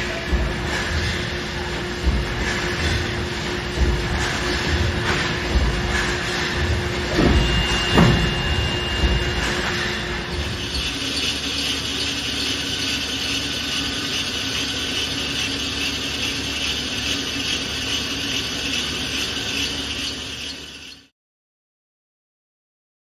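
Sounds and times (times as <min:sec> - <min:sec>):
machinery clattering: 0:00.0 - 0:21.1.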